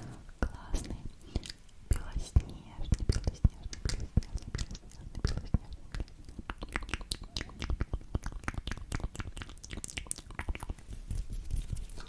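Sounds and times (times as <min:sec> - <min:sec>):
wet mouth clicks and smacks: 0:01.2 - 0:11.2.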